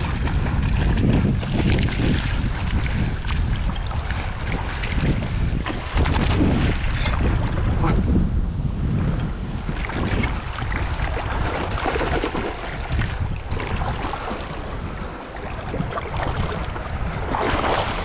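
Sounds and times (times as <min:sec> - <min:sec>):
water washing on reef: 0:00.0 - 0:07.8, 0:09.9 - 0:18.0
wind buffeting microphone: 0:00.0 - 0:18.0.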